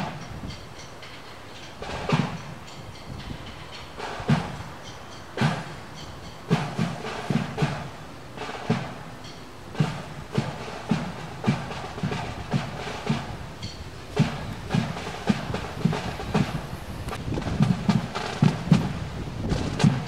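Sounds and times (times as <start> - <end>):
sharp drum strokes: 0.0 - 20.0.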